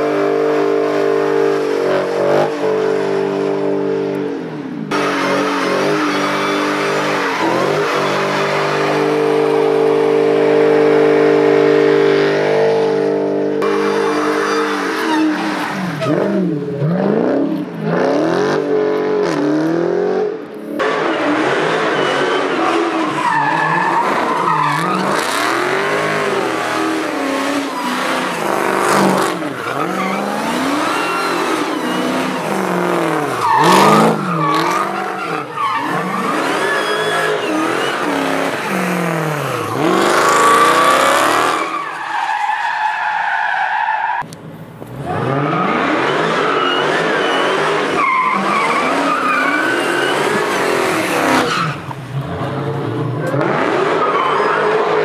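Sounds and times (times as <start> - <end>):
tyres squealing on asphalt: 0.0 - 17.5, 20.8 - 44.3, 45.0 - 55.0
car engine at high revs: 0.0 - 41.8, 44.2 - 55.0.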